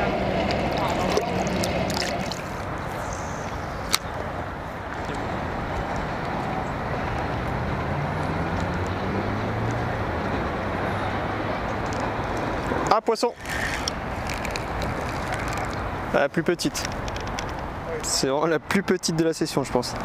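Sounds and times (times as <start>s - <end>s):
vehicle engine hum: 0.0s - 18.3s
city traffic noise: 0.0s - 20.0s.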